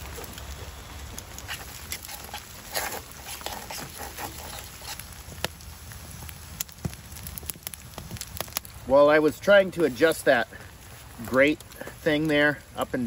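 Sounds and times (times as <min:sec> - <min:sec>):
fries sizzling in oil: 0:00.0 - 0:13.0.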